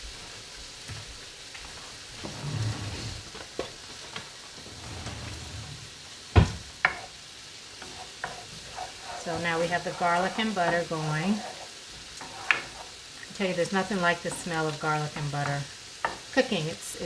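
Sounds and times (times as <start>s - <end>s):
garlic sizzling in butter: 0.0s - 17.0s.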